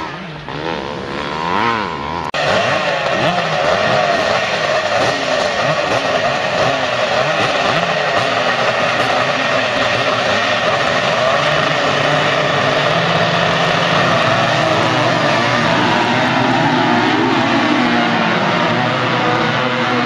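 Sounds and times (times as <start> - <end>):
motorcycles racing and revving: 0.0 - 20.0.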